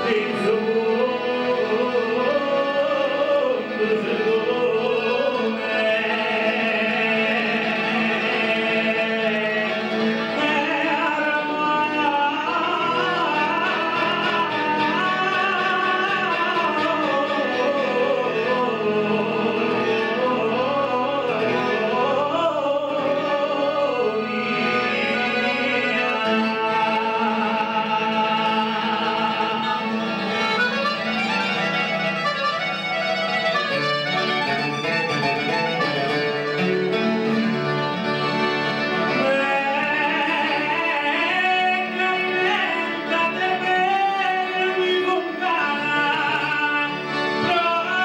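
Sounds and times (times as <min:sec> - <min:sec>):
man singing ornamented melody: 0:00.0 - 0:36.7, 0:38.9 - 0:48.0
guitar accompaniment: 0:00.0 - 0:48.0.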